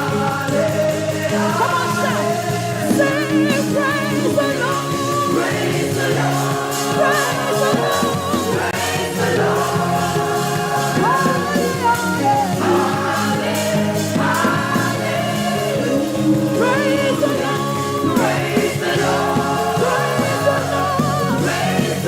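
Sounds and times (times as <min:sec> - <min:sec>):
gospel singing over steady beat: 0:00.0 - 0:22.0
lead voice with vibrato: 0:00.0 - 0:22.0.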